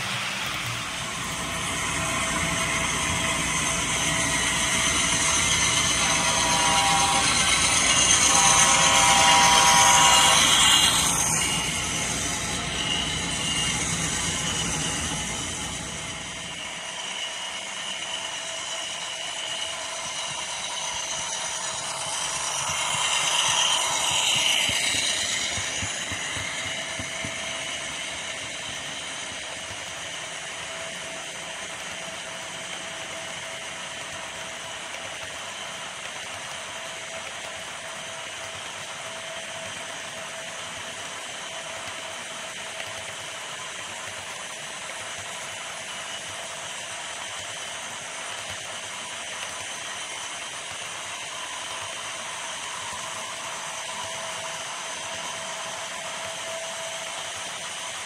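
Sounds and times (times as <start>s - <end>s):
model train motor hum: 0.0s - 58.0s
model train wheels rattling on rail: 0.0s - 58.0s.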